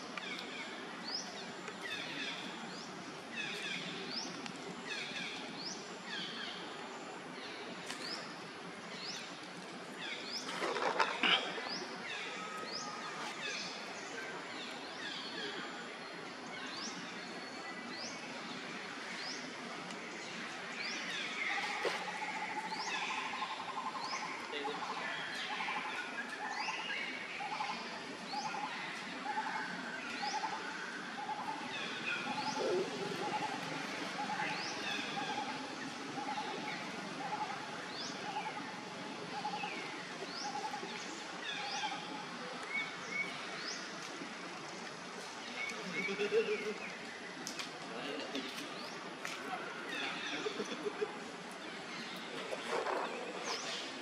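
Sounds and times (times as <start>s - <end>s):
background bird calls: 0.0s - 54.0s
steady background hiss: 0.0s - 54.0s.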